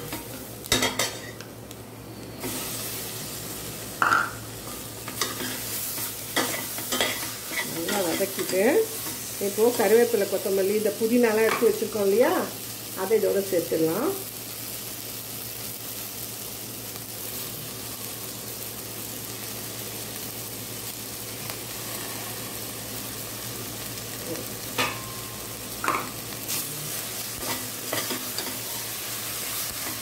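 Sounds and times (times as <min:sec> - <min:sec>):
masala sizzling in pot: 0:00.0 - 0:30.0.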